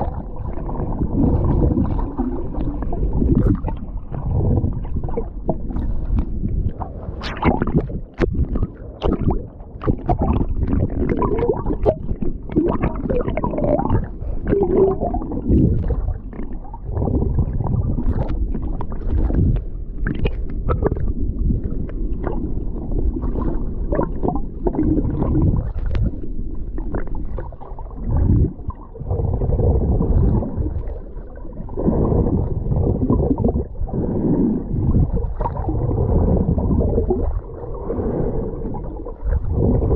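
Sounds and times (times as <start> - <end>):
sea water sloshing and gurgling: 0.0 - 39.9.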